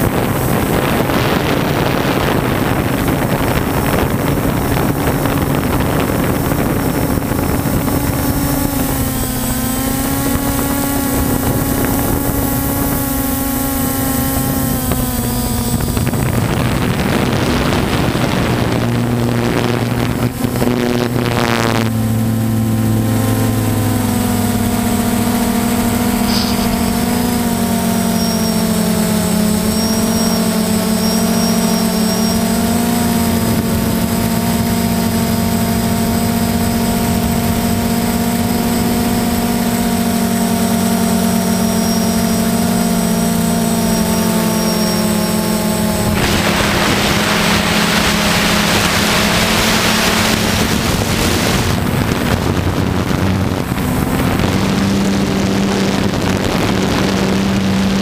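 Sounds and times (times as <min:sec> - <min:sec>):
drone motors whining: 0:00.0 - 0:58.0
wind noise: 0:00.0 - 0:58.0.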